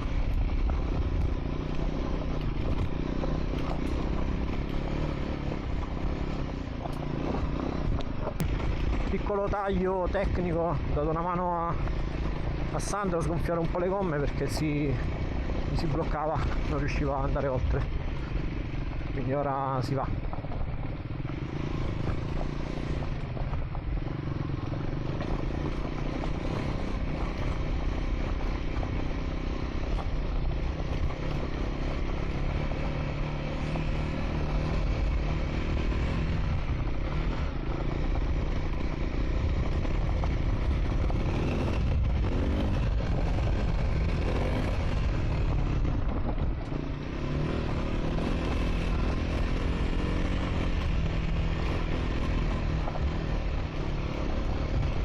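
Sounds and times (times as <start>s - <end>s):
low rumble of wind: 0.0s - 55.0s
motorcycle engine running: 0.0s - 55.0s.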